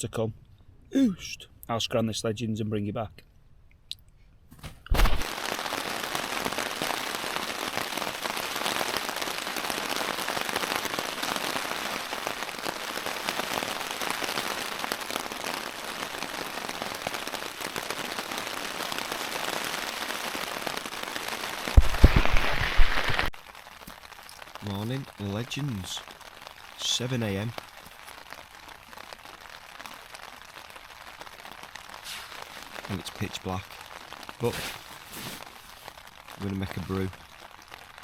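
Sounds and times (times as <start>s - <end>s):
rain pattering on a tent: 4.6s - 38.0s.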